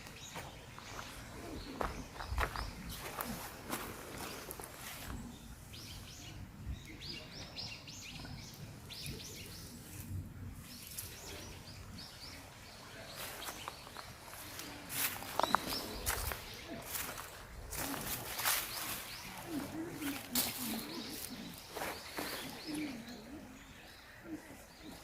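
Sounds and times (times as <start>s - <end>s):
songbird chirping: 0.0s - 25.0s.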